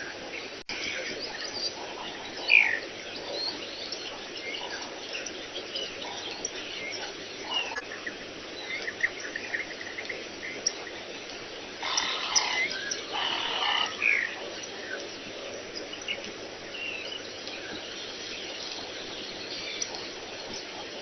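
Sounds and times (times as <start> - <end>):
insect and frog hum: 0.0 - 21.0
wild birds chirping: 0.0 - 21.0.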